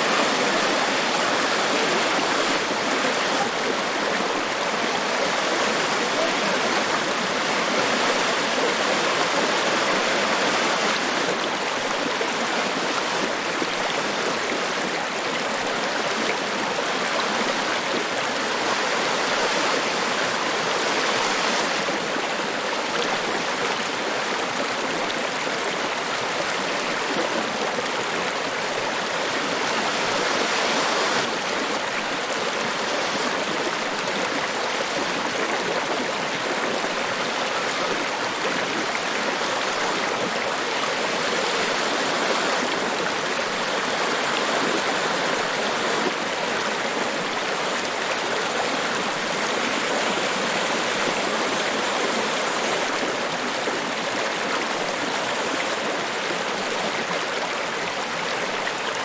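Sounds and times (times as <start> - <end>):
waterfall rushing: 0.0 - 14.8, 16.3 - 22.7, 27.4 - 54.0.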